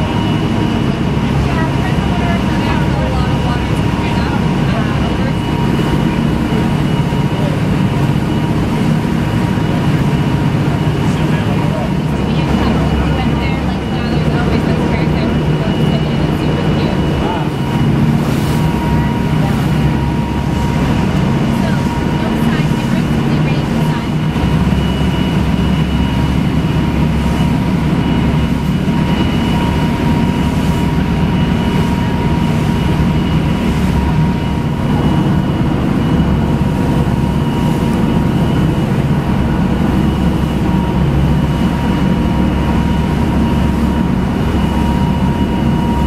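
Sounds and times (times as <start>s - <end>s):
motorboat engines running: 0.0s - 46.0s.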